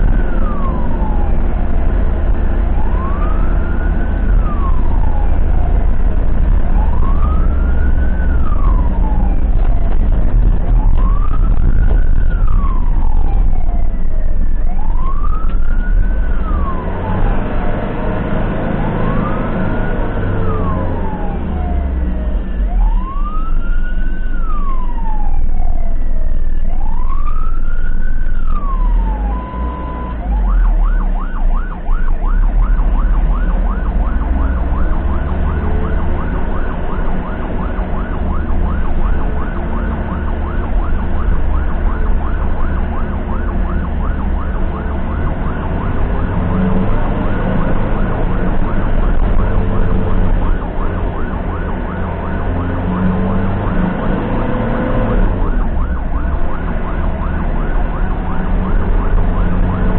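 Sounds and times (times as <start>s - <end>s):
ambulance siren: 0.0s - 59.9s
vehicle engine and road noise: 0.0s - 59.9s.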